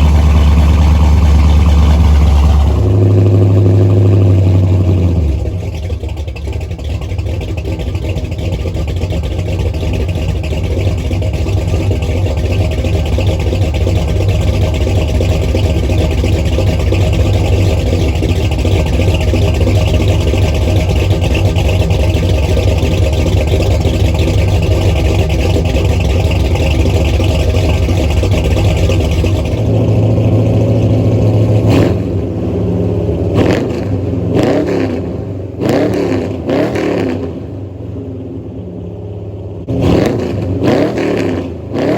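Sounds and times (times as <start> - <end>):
engine revving: 0.0 - 37.9, 39.6 - 41.9
car engine running loud: 0.0 - 41.9.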